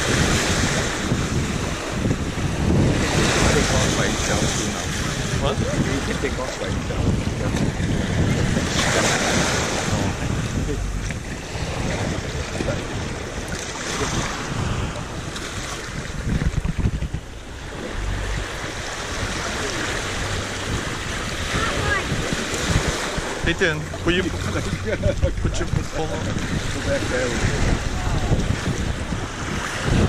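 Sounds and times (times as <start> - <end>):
small waves washing in: 0.0 - 30.0
wind rumbling on microphone: 0.0 - 30.0.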